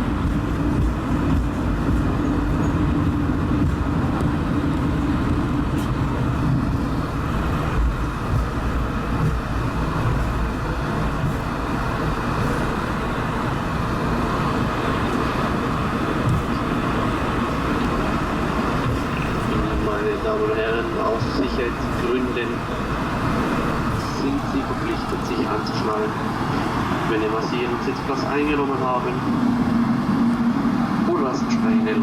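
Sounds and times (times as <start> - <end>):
aircraft cabin rumble: 0.0 - 32.0
jet engines humming: 0.0 - 32.0.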